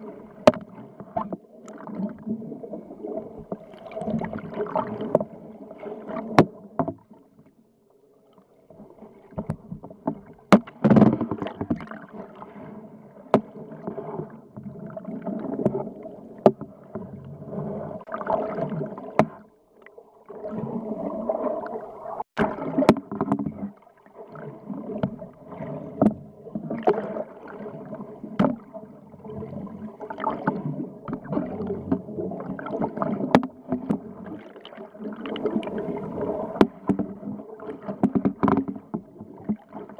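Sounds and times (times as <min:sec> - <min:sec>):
underwater water gurgling and rushing: 0:00.0 - 0:39.9.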